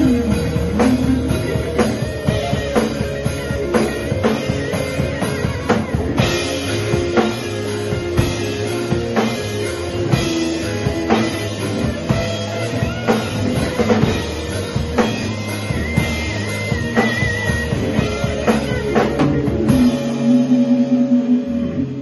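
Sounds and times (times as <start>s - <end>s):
drum kit beat: 0.0s - 22.0s
rock band playing live: 0.0s - 22.0s.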